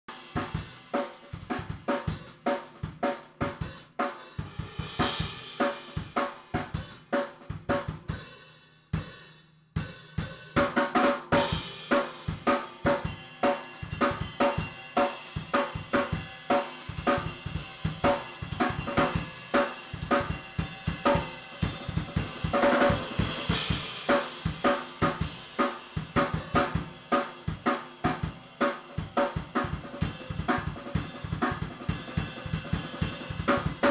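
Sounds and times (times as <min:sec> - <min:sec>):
drum kit played fast: 0:00.0 - 0:33.9.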